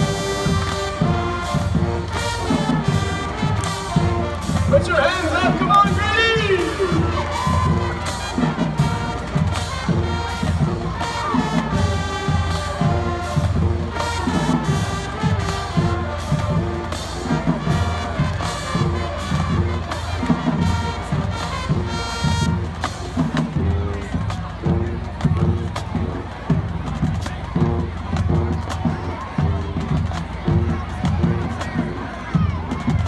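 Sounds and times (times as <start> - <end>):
crowd cheering: 0.0 - 33.0
marching band playing: 0.0 - 33.0.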